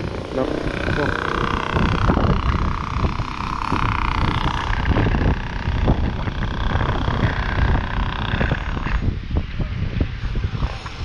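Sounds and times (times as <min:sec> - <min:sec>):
steady higher drone: 0:00.0 - 0:11.0
wind buffeting microphone: 0:00.0 - 0:11.0.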